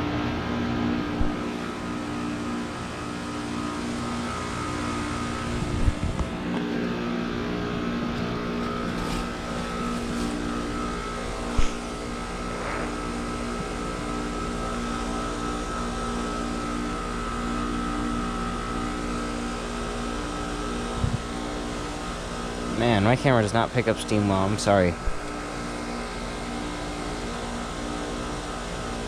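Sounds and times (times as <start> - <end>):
heat pump compressor hum: 0.0 - 29.0
thin whine: 0.0 - 29.0.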